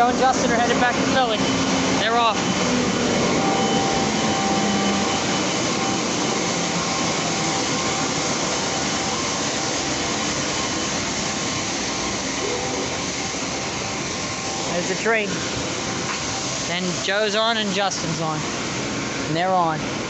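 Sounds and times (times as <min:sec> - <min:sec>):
train rushing noise: 0:00.0 - 0:19.2.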